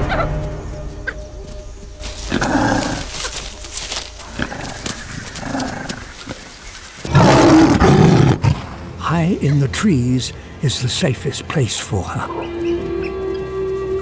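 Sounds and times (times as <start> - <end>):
wild animal calls: 0.0 - 9.8, 11.9 - 13.8.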